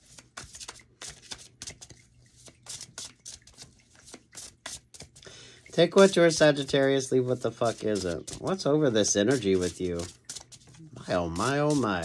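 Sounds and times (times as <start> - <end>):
cards being shuffled by hand: 0.0 - 12.0.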